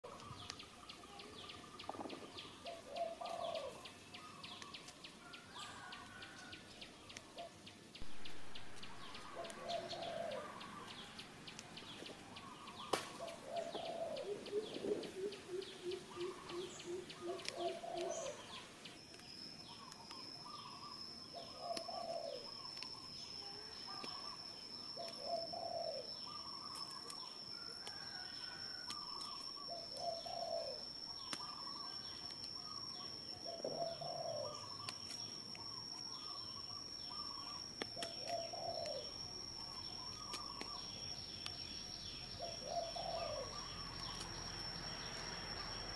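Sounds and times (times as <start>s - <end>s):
small high bird chirps: 0.0s - 45.9s
pulsing bird notes: 7.2s - 45.9s
steady high-pitched tone: 8.0s - 45.9s.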